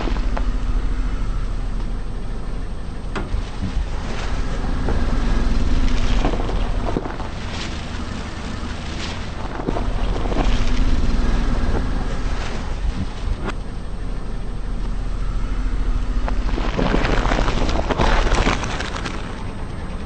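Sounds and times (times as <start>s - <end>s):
tyres crushing crunchy objects: 0.0s - 1.9s, 3.2s - 13.6s, 15.6s - 19.7s
car engine running low: 0.0s - 20.0s.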